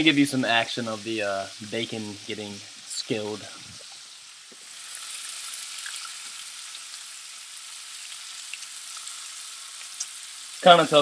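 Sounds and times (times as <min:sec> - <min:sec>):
bacon sizzling in a skillet: 0:00.0 - 0:11.0.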